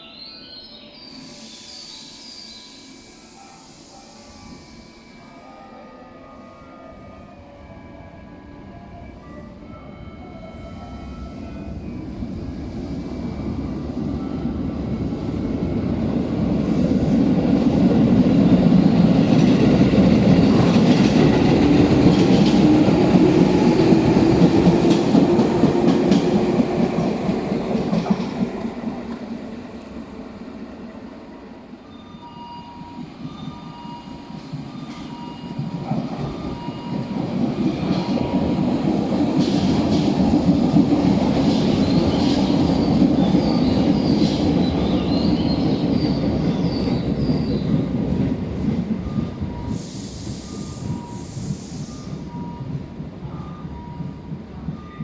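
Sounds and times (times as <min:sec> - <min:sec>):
electric train passing: 0:00.0 - 0:55.0.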